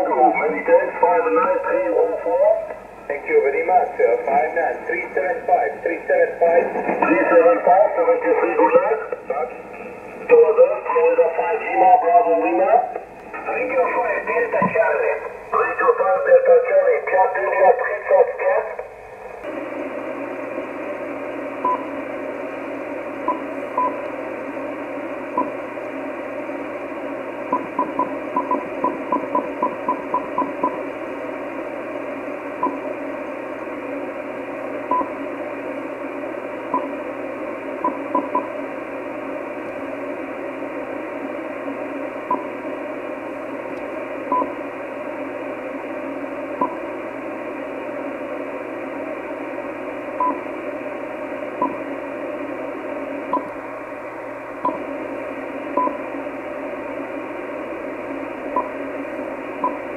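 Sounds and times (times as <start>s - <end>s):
radio receiver hiss: 0.0s - 59.9s.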